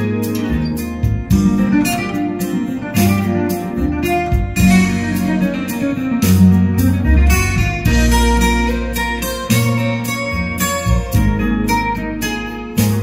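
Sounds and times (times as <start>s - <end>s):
guitar music with bass line: 0.0s - 13.0s.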